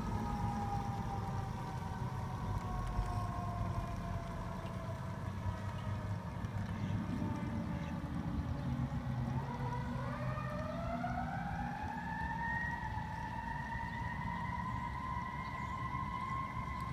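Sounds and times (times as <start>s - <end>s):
locomotive running rumble: 0.0s - 16.9s.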